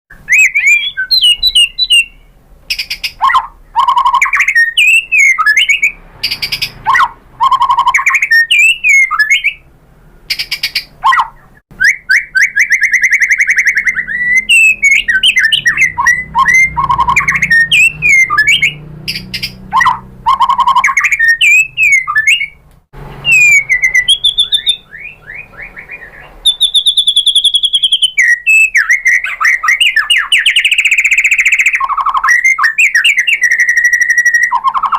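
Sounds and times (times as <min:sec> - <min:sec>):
bird singing clear whistles: 0:00.1 - 0:09.7, 0:10.3 - 0:22.6, 0:23.2 - 0:34.9.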